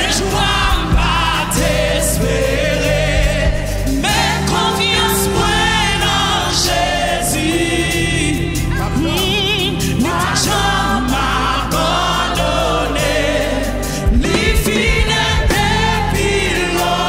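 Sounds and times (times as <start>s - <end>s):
drum kit: 0.0s - 17.0s
voices singing a hymn: 0.0s - 17.0s.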